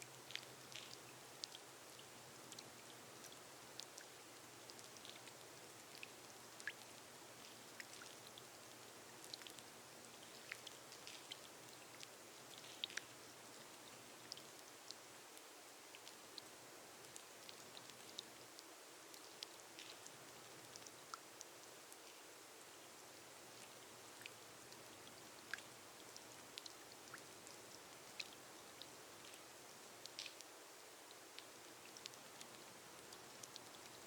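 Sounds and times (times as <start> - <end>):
rain on a glass roof: 0.0 - 34.0.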